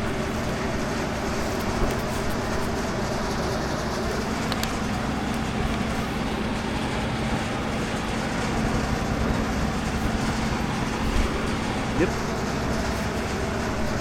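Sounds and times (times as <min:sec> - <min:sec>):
large diesel engine running: 0:00.0 - 0:14.0
low steady hum: 0:00.0 - 0:14.0.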